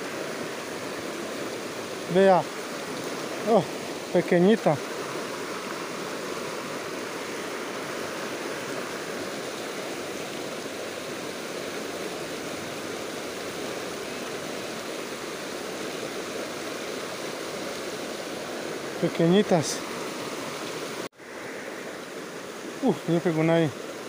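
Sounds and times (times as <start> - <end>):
river rushing over stones: 0.0 - 24.0.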